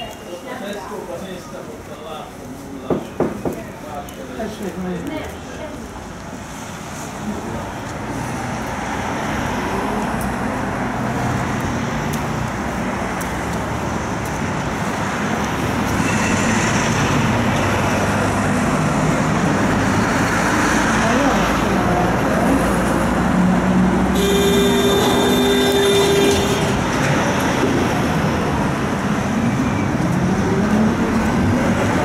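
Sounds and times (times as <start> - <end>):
road traffic passing: 0.0 - 32.0.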